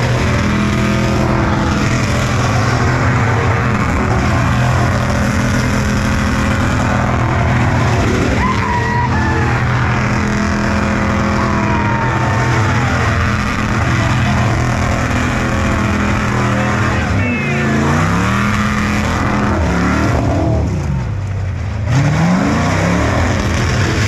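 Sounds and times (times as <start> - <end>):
rushing noise: 0.0 - 21.2
car engine running steadily: 0.0 - 24.0.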